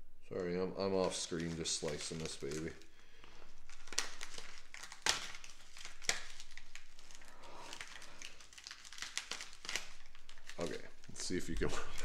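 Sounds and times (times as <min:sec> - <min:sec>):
packaging crinkling and tearing: 0:00.4 - 0:12.0.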